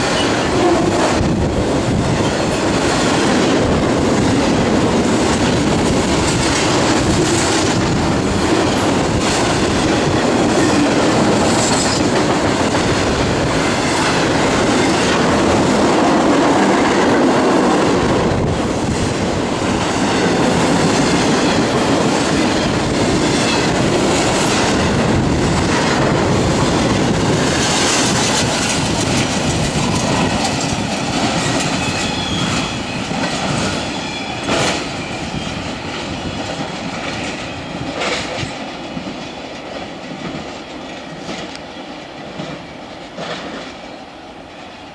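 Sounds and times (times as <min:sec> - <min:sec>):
clickety-clack over rail joints: 0:00.0 - 0:44.9
freight train cars rolling past: 0:00.0 - 0:44.9.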